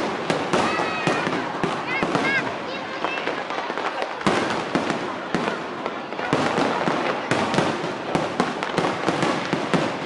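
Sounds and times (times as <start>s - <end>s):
fireworks bangs: 0.0s - 10.0s
fireworks crackling: 0.0s - 10.0s.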